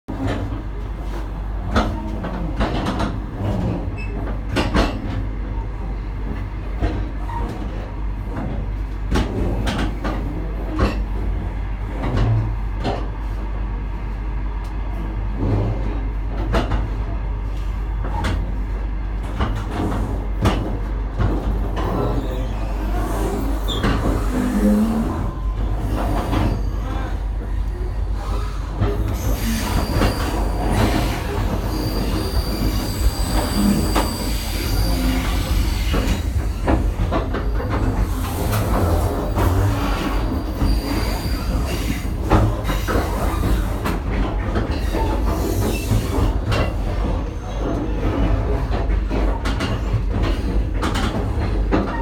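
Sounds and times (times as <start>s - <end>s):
train coach rumble: 0.1s - 52.0s.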